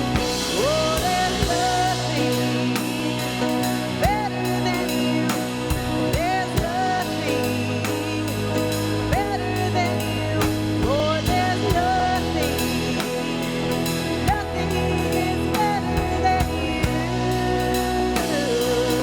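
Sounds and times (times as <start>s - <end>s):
drum kit steady beat: 0.0s - 19.0s
worship band playing: 0.0s - 19.0s.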